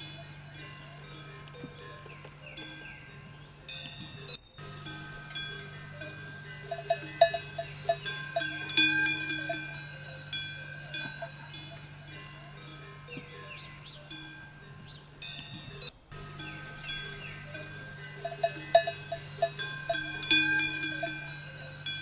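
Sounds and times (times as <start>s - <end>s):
low hum: 0.0s - 22.0s
metal bells clanking: 0.0s - 22.0s.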